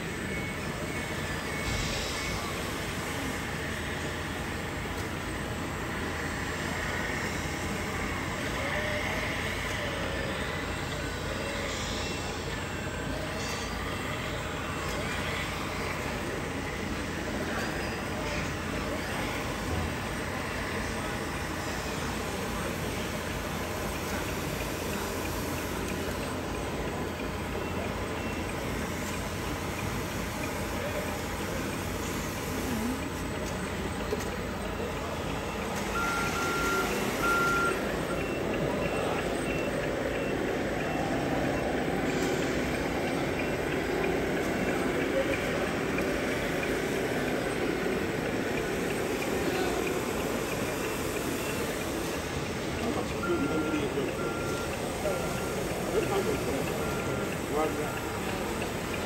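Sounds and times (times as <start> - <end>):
background din in a large hall: 0.0 - 59.0.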